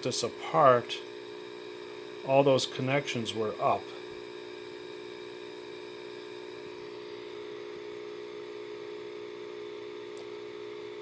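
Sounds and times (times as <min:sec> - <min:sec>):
television electrical hum and buzz: 0:00.0 - 0:11.0.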